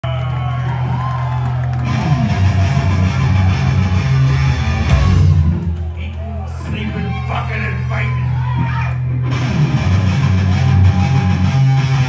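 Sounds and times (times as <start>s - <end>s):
punk band playing live: 1.7s - 7.2s, 7.8s - 12.0s
distorted electric guitars: 1.8s - 12.0s.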